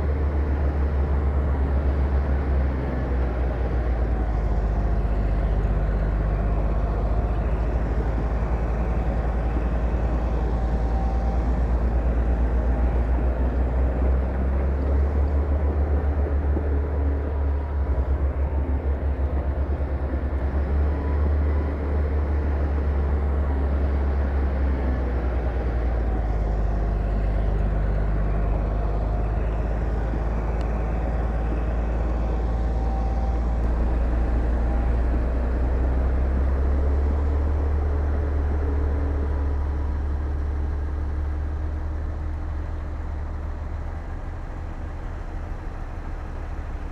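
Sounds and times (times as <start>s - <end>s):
heavy diesel machinery rumbling: 0.0s - 46.9s.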